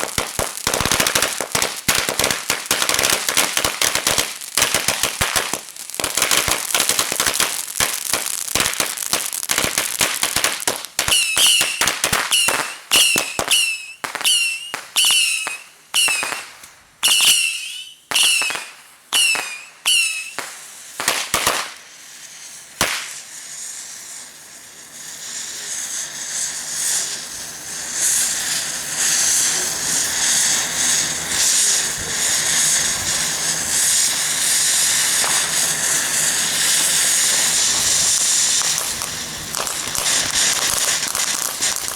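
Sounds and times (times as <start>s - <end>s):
loud firework bangs: 0.0s - 21.8s, 22.8s - 23.2s, 27.8s - 41.9s
firecracker pops: 0.0s - 22.0s, 22.8s - 24.3s, 27.9s - 41.9s
firework fountain hissing: 0.0s - 41.9s
whistling firework squeals: 0.0s - 41.9s.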